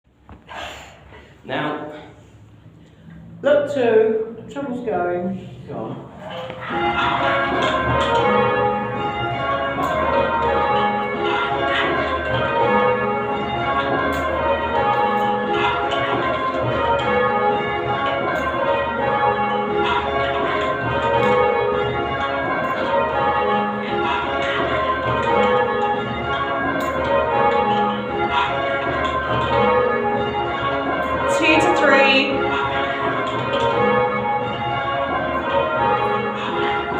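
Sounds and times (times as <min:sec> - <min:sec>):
church bells ringing in rounds: 0:05.3 - 0:36.9.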